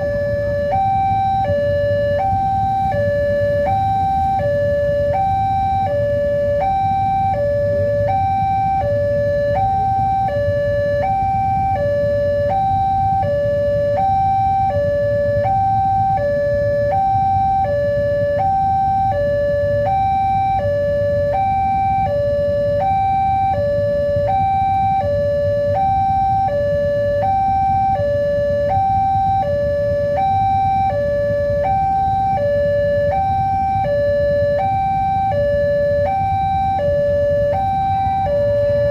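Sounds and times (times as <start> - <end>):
level-crossing two-tone alarm: 0.0 - 38.9.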